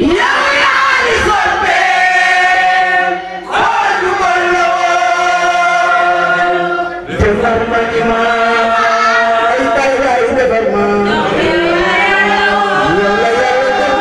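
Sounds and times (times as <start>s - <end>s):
group of voices chanting: 0.0s - 10.0s, 11.0s - 14.0s.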